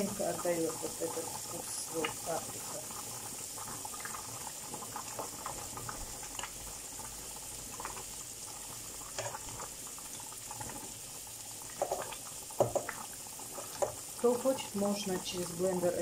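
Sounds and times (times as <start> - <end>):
soup boiling in pot: 0.0 - 16.0
vegetables sizzling in oil: 0.0 - 16.0.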